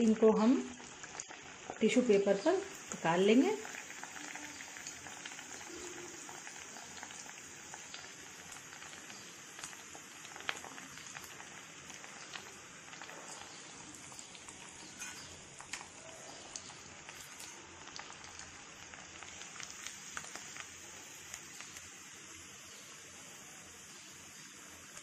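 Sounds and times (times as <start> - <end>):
oil sizzling and crackling: 0.0 - 25.0.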